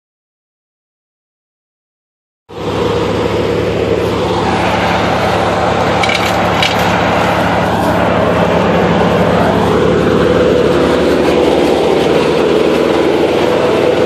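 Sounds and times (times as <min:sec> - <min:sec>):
wood chipper running: 0:02.5 - 0:14.0.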